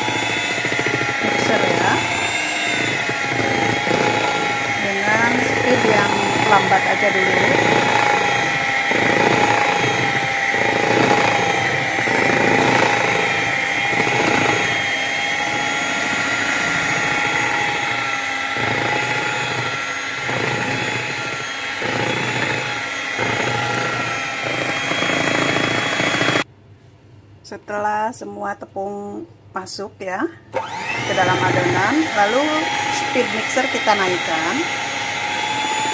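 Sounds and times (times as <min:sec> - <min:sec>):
batter churning in plastic bowl: 0:00.0 - 0:26.5, 0:30.6 - 0:35.9
hand mixer motor whine: 0:00.0 - 0:26.5, 0:30.5 - 0:35.9.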